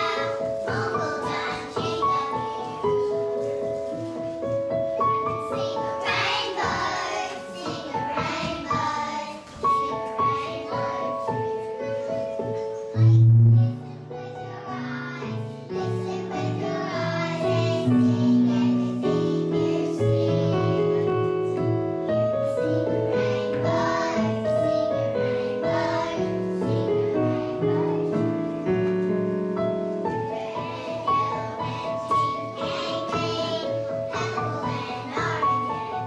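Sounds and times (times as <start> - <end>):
children singing: 0.0 - 3.6, 5.0 - 21.7, 22.4 - 28.8, 30.0 - 36.0.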